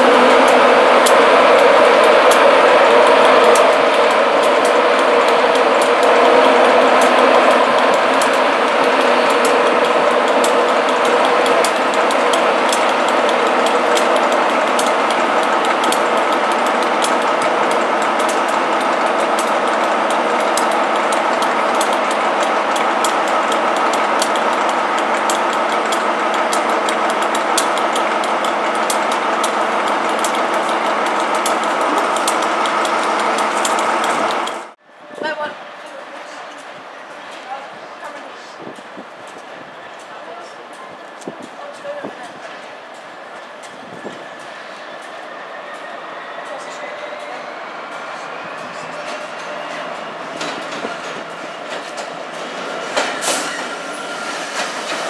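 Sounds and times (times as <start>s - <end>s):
diesel locomotive engine idling: 0.0s - 55.0s.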